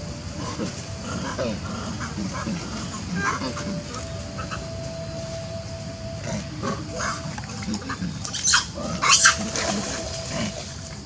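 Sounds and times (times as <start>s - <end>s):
macaques calling: 0.0s - 11.0s.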